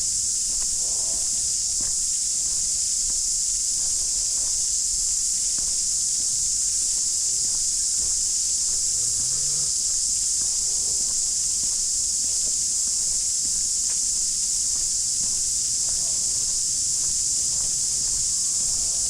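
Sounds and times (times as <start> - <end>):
cicadas chorus: 0.0 - 19.0
faint footsteps on path: 0.0 - 19.0.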